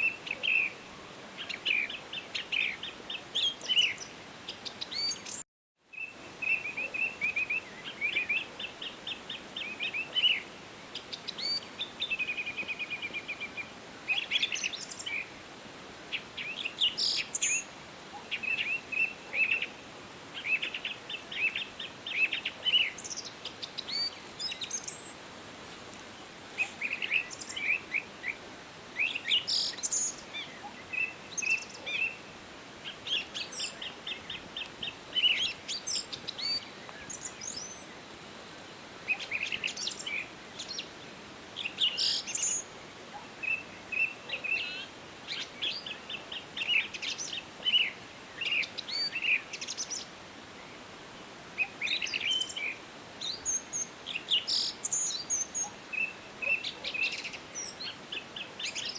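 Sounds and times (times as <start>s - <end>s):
faint background hiss: 0.0s - 58.9s
songbirds chirping and trilling: 0.0s - 58.9s.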